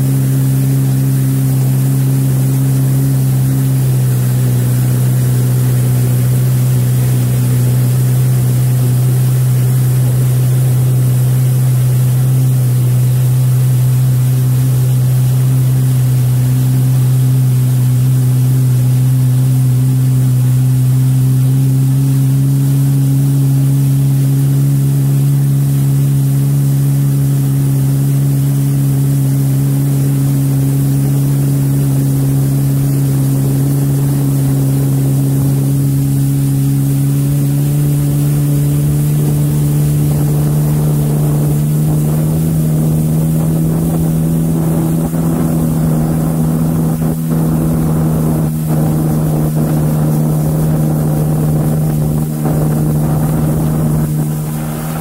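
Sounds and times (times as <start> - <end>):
jet ski engine running: 0.0 - 55.0.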